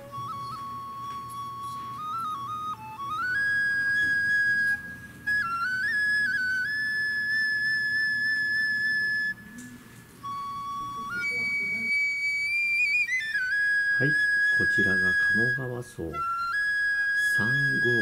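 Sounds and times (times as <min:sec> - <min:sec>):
solo flute melody: 0:00.0 - 0:18.0.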